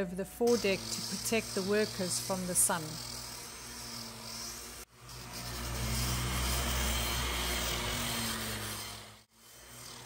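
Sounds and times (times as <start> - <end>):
electric sanders humming: 0.0 - 10.0.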